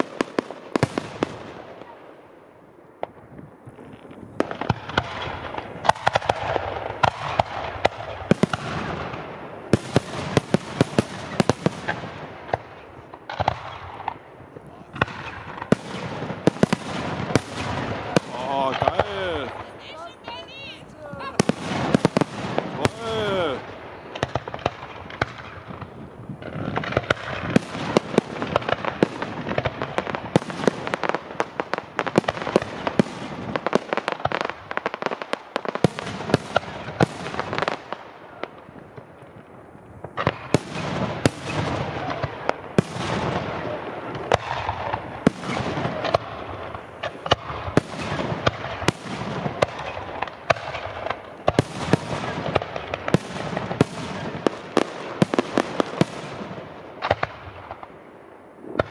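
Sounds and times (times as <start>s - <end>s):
fireworks banging and crackling: 0.0s - 58.9s.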